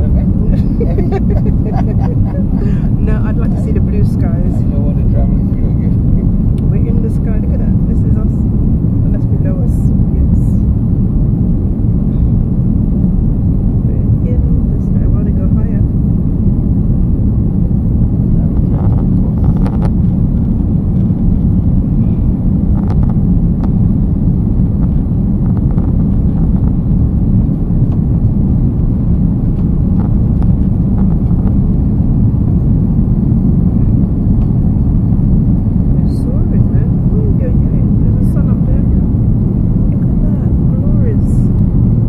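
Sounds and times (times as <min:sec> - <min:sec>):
aircraft engine rumble in cabin: 0:00.0 - 0:42.0.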